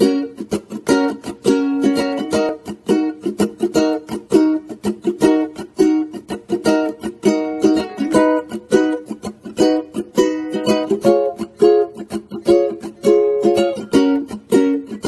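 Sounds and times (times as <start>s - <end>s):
plucked string instrument music: 0.0s - 15.0s.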